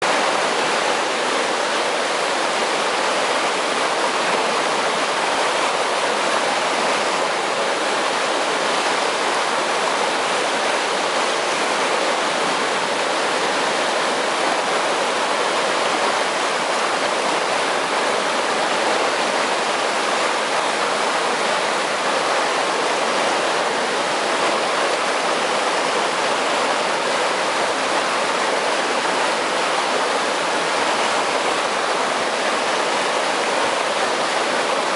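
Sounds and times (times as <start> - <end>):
water rushing through canal: 0.0 - 34.9.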